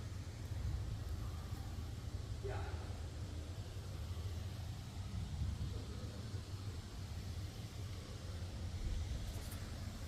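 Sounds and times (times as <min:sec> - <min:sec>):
faint hiss: 0:00.0 - 0:10.0.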